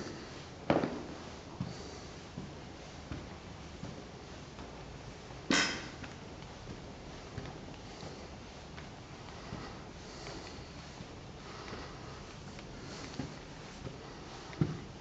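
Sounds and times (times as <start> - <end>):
footsteps on carpeted stairs: 0.0 - 5.4, 6.0 - 15.0.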